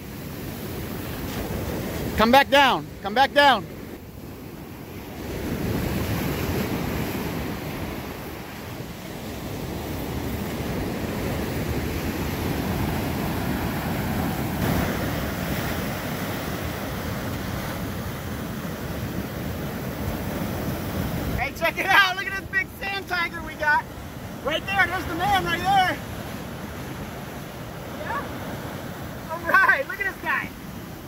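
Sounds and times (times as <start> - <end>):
ocean surf breaking: 0.0 - 31.0.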